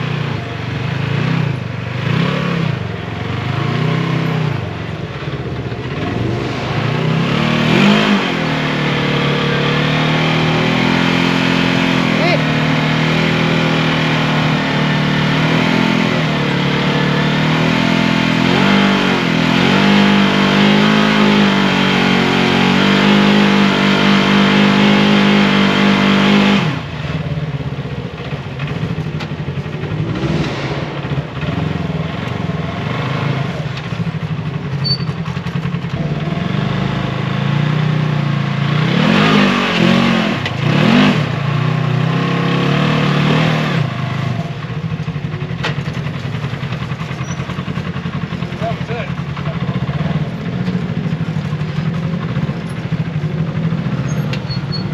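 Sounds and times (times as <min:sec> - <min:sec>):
engine running hard and revving: 0:00.0 - 0:54.9.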